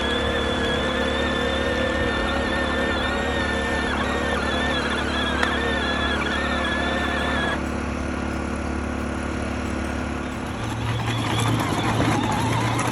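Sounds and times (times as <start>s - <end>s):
electric motor humming: 0.0s - 8.4s, 9.9s - 12.9s
wavering high whine: 0.0s - 12.9s.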